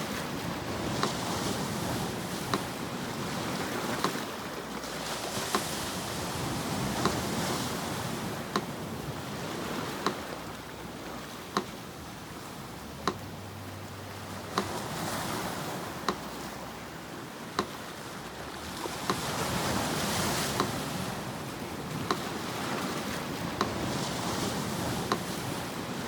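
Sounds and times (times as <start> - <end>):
sea surf: 0.0 - 26.0
metronome ticking: 0.8 - 5.7, 6.3 - 22.4, 23.4 - 25.4.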